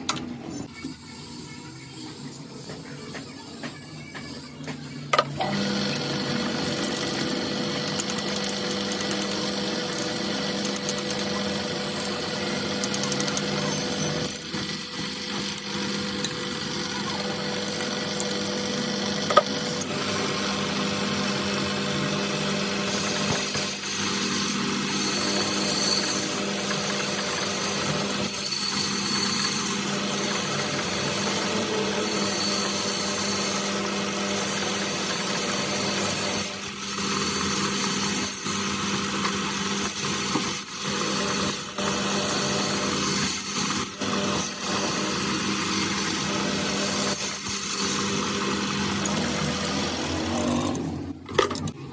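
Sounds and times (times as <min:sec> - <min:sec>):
workshop machinery humming: 0:00.0 - 0:51.9.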